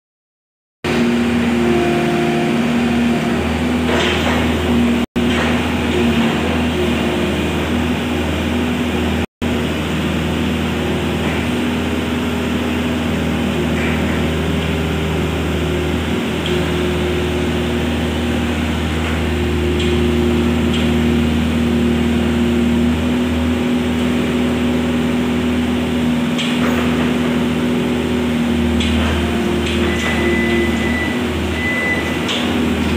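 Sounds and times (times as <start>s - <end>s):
excavator diesel engine running: 0.9s - 32.9s.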